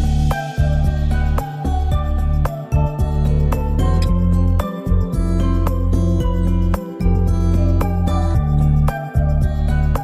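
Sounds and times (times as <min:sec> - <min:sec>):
instrumental music with strong bass: 0:00.0 - 0:10.0.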